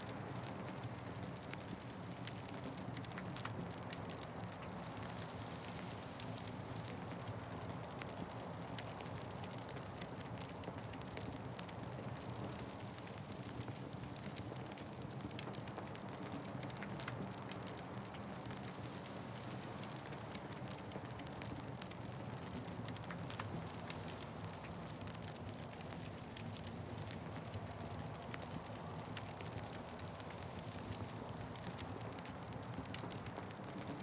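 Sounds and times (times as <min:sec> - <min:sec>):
wood fire crackling: 0:00.1 - 0:34.0.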